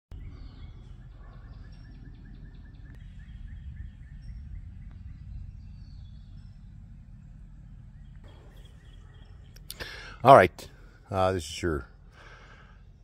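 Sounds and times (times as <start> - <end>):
birds chirping: 0.1 - 13.0
low rumble of wind: 0.1 - 13.0.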